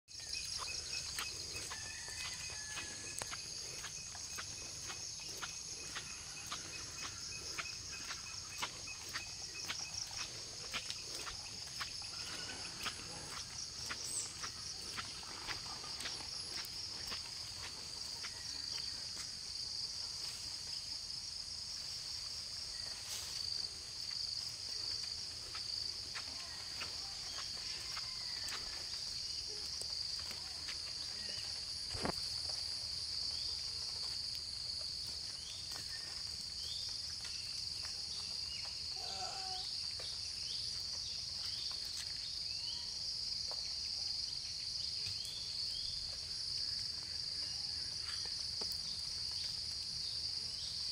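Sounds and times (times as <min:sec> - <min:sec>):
high-pitched insect chorus: 0:00.1 - 0:50.9.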